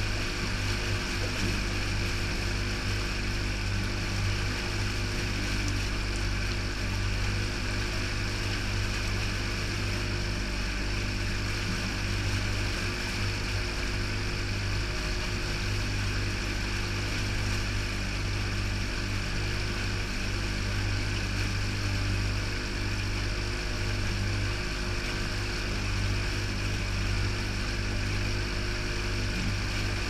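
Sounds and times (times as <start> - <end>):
outboard motor running: 0.0 - 30.0
water rushing: 0.0 - 30.0.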